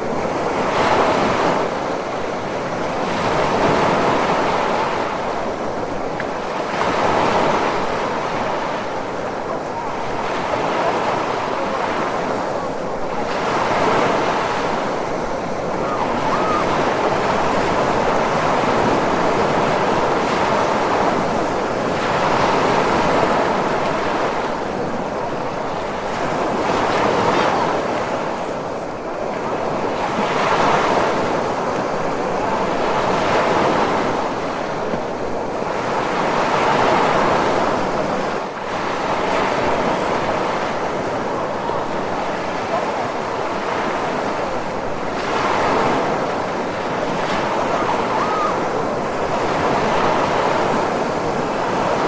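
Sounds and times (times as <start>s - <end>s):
ocean waves breaking on shore: 0.0s - 52.0s.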